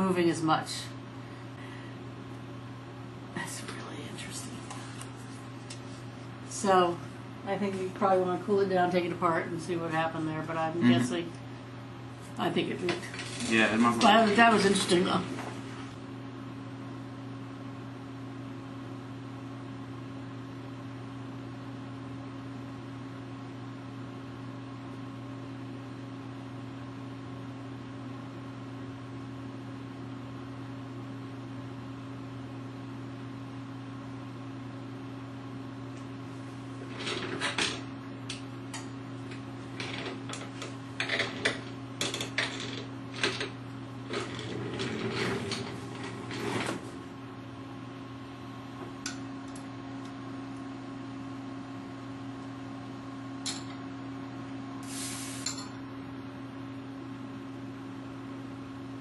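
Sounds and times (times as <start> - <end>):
mechanical hum of equipment: 0.0 - 59.0.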